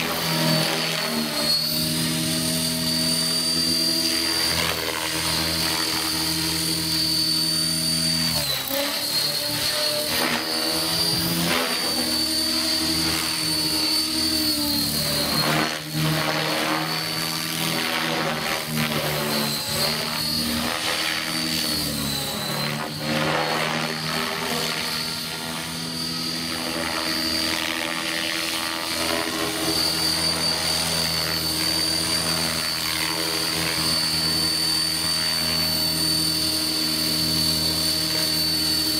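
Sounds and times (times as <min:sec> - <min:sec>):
high whine: 0:00.0 - 0:38.9
model helicopter rotor hum: 0:00.0 - 0:38.9.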